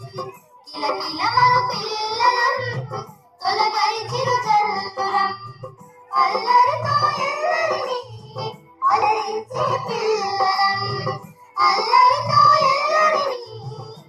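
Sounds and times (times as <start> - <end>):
child singing over music: 0.0 - 14.0.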